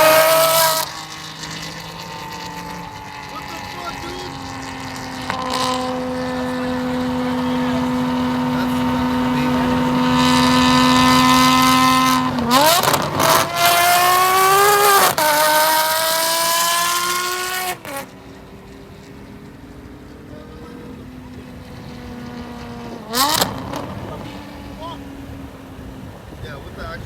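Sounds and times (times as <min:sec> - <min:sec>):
car engine revving high: 0:00.0 - 0:27.0
gear changes: 0:00.0 - 0:27.0.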